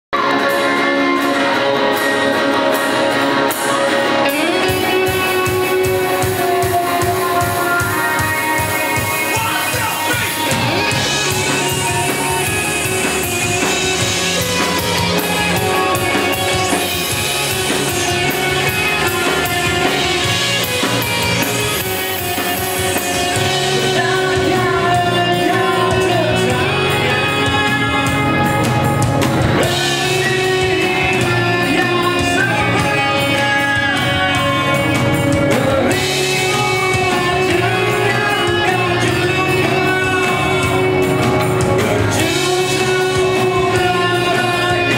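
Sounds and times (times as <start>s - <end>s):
rock band playing live: 0.1s - 44.9s
person singing: 0.2s - 44.9s.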